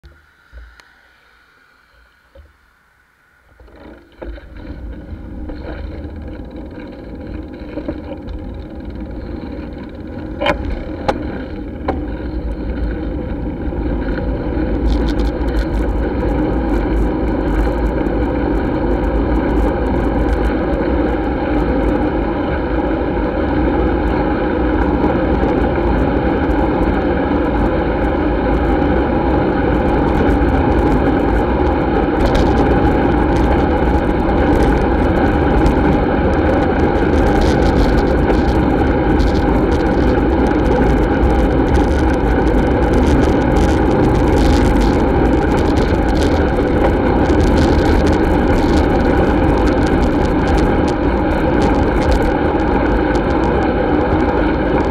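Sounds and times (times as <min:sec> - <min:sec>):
bike tyre rumble: 0:00.0 - 0:54.9
wind buffeting camera: 0:03.5 - 0:54.9.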